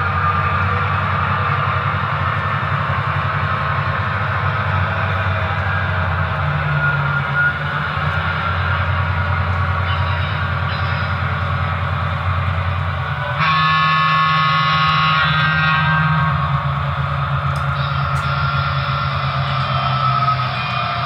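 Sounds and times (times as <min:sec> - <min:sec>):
locomotive horn tones: 0:00.0 - 0:21.0
model locomotive engine rumble: 0:00.0 - 0:21.0.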